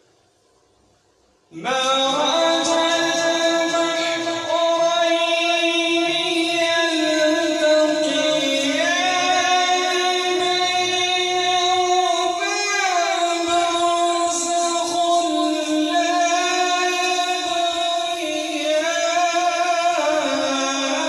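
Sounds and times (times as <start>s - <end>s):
man reciting melodically: 1.5s - 21.0s.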